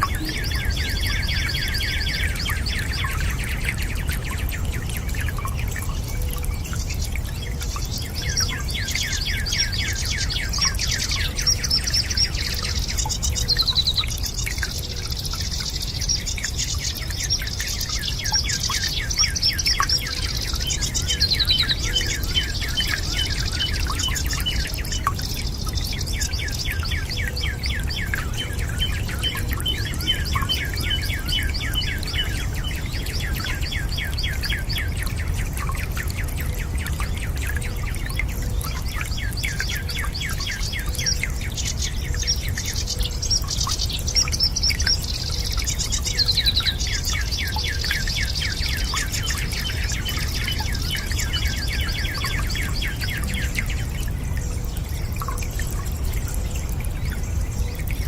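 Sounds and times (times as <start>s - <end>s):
birds chirping chorus: 0.0s - 58.0s.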